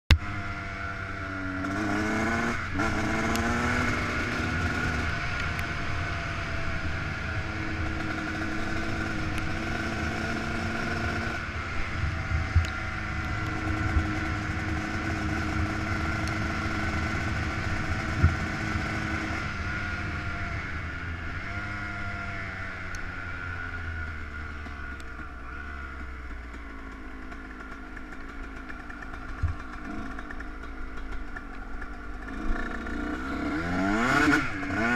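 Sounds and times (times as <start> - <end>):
two-stroke motorcycle engine: 0.1 - 34.9.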